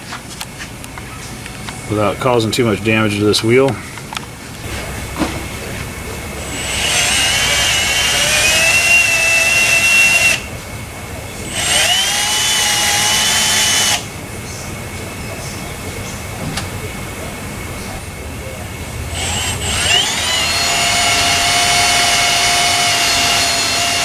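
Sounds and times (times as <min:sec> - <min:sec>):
power tool whining: 0:04.6 - 0:24.0.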